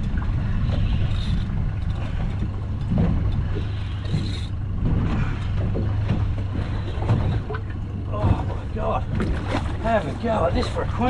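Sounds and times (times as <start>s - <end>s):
boat motor idling: 0.0s - 11.0s.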